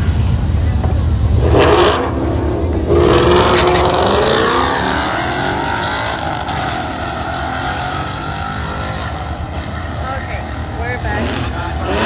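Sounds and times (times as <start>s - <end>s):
drag racing car engines: 0.0s - 12.0s.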